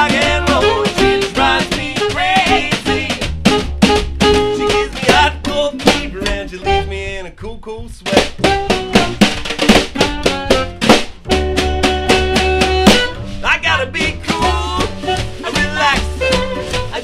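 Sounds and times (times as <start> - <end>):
saxophone: 0.0 - 5.4, 6.5 - 7.2, 8.3 - 17.0
snare drum beat: 0.0 - 17.0
ukulele: 0.0 - 17.0
upright bass: 0.0 - 17.0.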